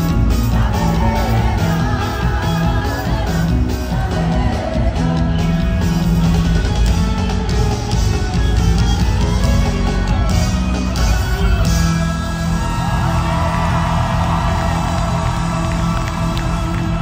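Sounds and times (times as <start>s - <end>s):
live gospel band with singers: 0.0s - 17.0s.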